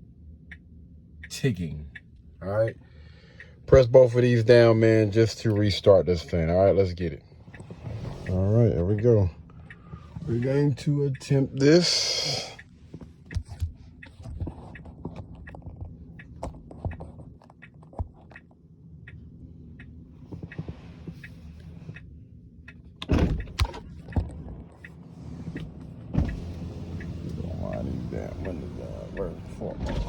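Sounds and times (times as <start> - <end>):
ticking inside car cabin: 0.0 - 30.0.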